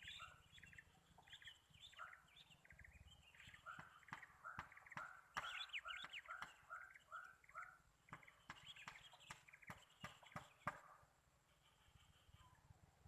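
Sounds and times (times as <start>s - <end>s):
faint bird calls: 0.0s - 12.7s.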